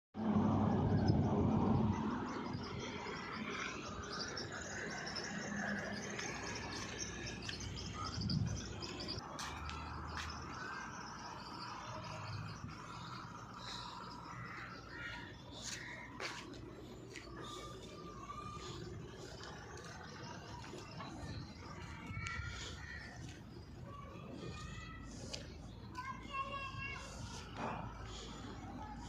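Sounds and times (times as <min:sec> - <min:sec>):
birds chirping: 0:01.8 - 0:29.0.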